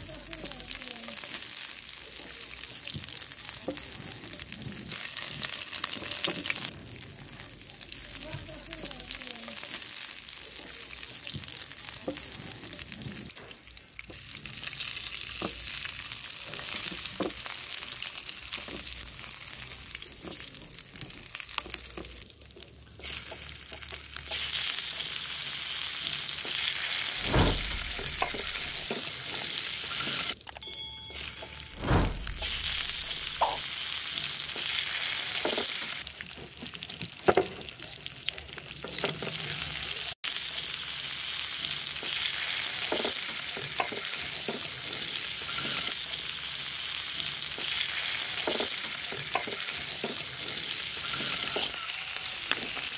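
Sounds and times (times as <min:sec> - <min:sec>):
oil sizzling in frying pan: 0:00.0 - 0:52.9.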